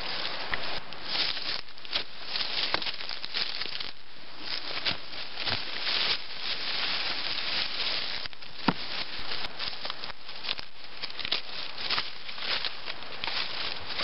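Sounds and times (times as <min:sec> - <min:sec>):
leaves and brush rustling: 0:00.0 - 0:14.0.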